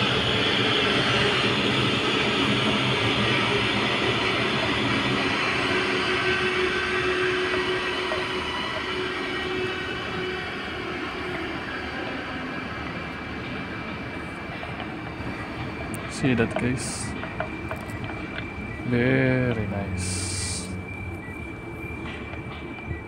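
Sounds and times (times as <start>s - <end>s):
high whine: 0.0s - 23.0s
machinery rumble: 0.0s - 23.0s.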